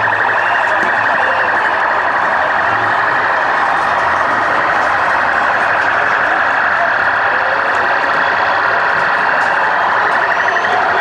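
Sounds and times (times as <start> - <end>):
loud steady din: 0.0 - 11.0
police sirens wailing: 0.0 - 11.0.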